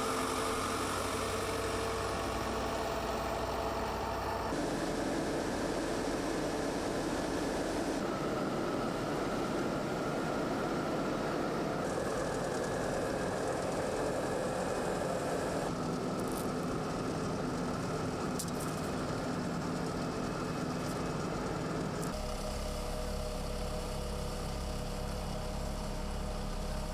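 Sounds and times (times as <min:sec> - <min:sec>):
road machinery engines running: 0:00.0 - 0:26.9.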